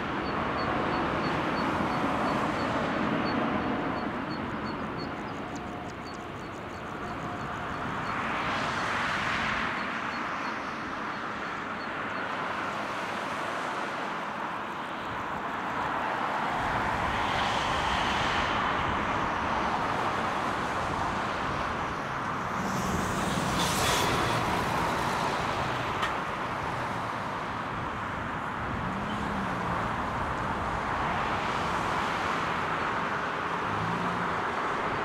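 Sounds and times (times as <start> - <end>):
jet engines at takeoff: 0.0 - 35.0.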